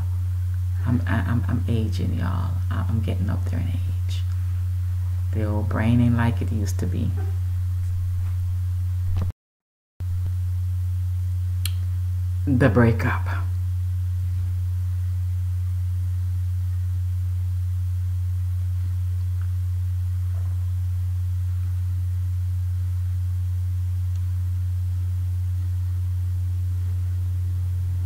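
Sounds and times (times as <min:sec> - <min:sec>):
steady low hum: 0:00.0 - 0:09.3, 0:10.0 - 0:28.0.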